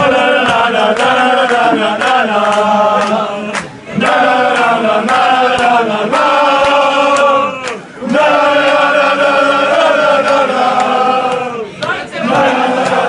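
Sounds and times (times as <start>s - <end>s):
handclaps in time: 0.0s - 8.8s, 9.7s - 13.0s
crowd singing a chant: 0.0s - 13.0s.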